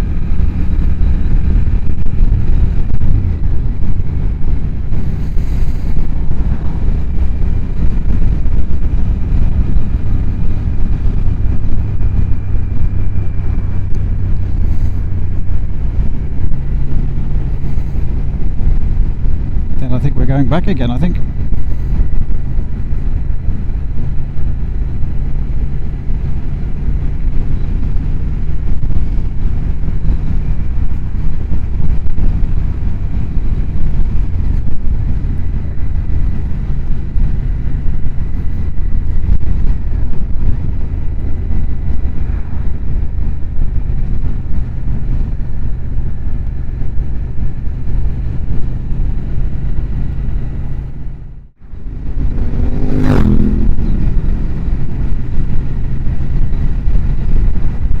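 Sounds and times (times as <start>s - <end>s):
motorcycle engine running: 0.0s - 58.0s
road noise: 0.0s - 58.0s
wind noise: 0.0s - 58.0s.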